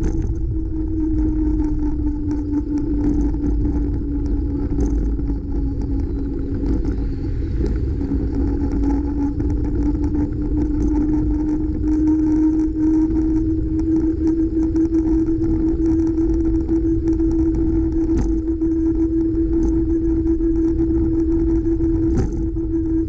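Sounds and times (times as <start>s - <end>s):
bicycle road noise: 0.0s - 23.0s
constant hum: 0.0s - 23.0s
wind rumble: 0.0s - 23.0s.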